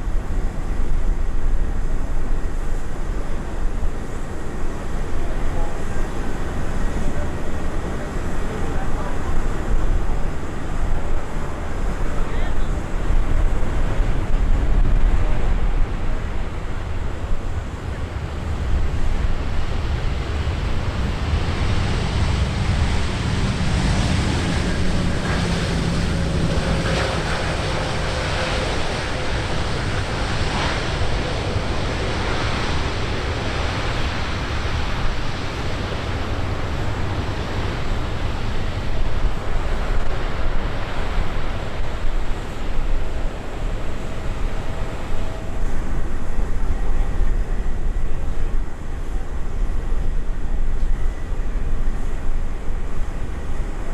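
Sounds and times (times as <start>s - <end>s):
jet airliner engine rush: 0.0s - 53.9s
wind buffeting microphone: 0.0s - 53.9s.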